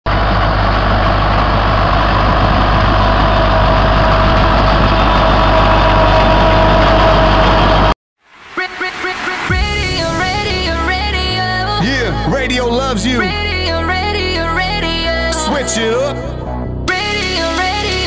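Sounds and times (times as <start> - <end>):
tractor diesel engine drone: 0.1 - 7.9, 9.8 - 18.0.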